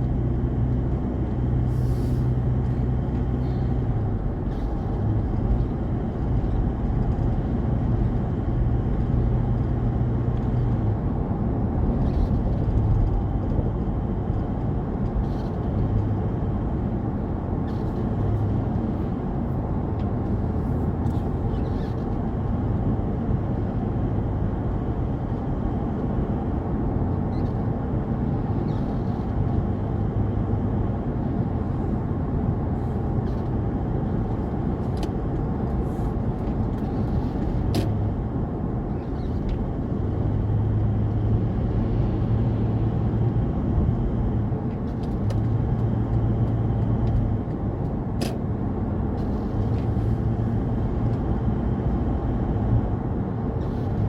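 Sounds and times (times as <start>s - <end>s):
car driving on road rumble: 0.0s - 54.0s.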